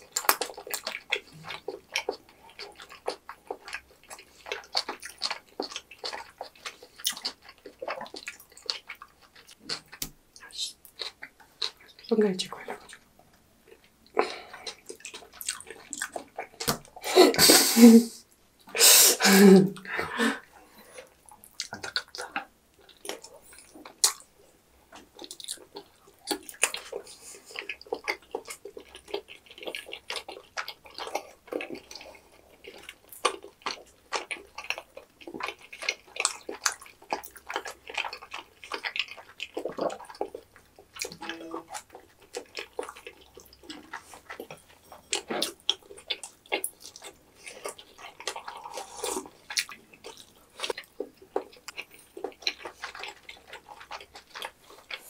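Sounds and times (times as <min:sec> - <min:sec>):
wet chewing and lip-smacking: 0:00.0 - 0:17.0, 0:19.7 - 0:55.0.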